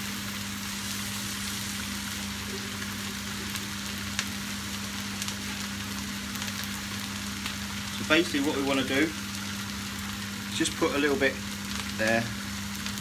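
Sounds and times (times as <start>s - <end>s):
pans sizzling: 0.0s - 13.0s.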